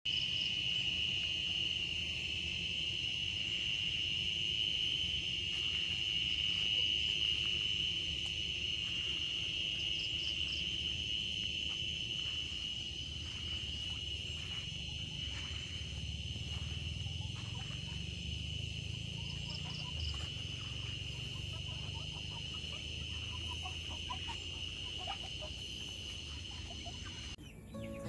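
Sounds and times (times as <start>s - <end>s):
high-pitched insect chorus: 0.1s - 28.0s.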